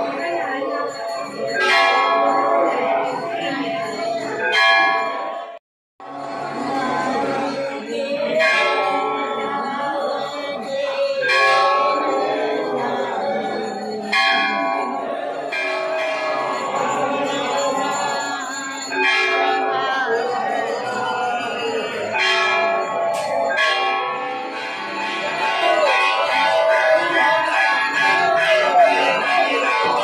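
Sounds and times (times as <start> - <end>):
crowd singing: 0.0 - 30.0
temple bells ringing: 0.0 - 30.0.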